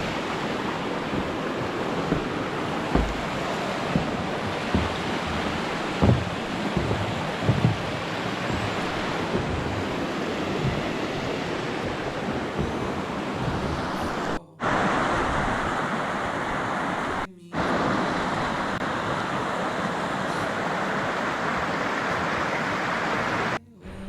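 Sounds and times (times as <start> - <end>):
water rushing from creek and falls: 0.0 - 24.0.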